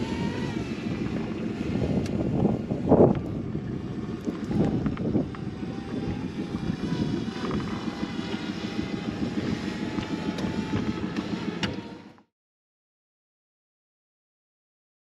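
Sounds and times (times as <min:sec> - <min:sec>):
boat noise: 0:00.0 - 0:12.3
drone whine: 0:00.0 - 0:12.3
wind: 0:00.0 - 0:12.3.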